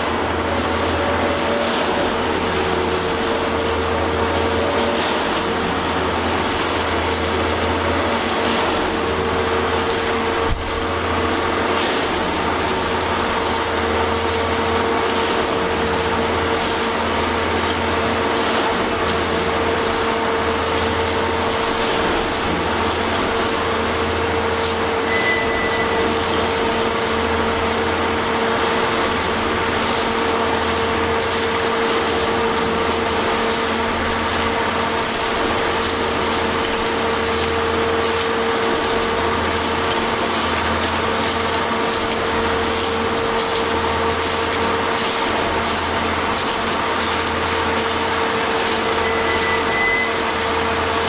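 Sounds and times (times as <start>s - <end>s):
heavy engine rumble: 0.0s - 51.0s.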